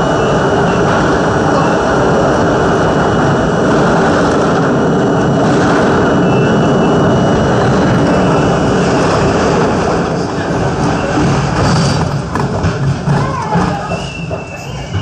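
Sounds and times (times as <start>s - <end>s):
subway train roaring in tunnel: 0.0s - 15.0s.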